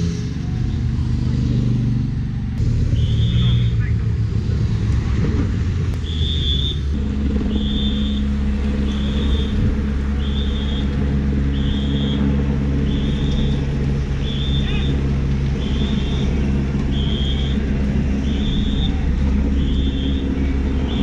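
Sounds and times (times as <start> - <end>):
motorcycle engines running: 0.0 - 21.0.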